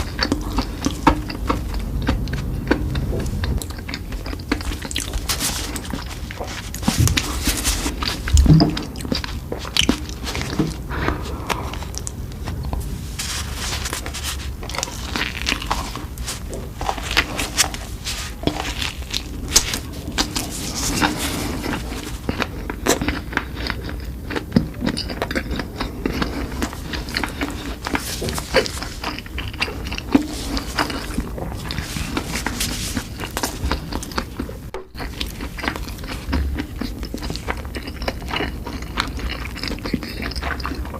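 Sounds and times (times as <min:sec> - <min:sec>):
person chewing and biting food: 0:00.0 - 0:40.9.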